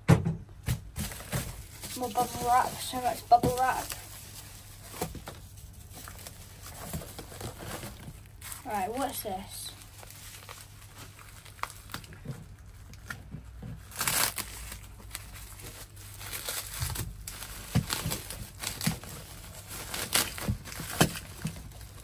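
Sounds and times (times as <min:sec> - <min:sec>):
bubble wrap crinkling and rustling: 0:00.7 - 0:22.0
bubble wrap crackles: 0:00.9 - 0:22.0.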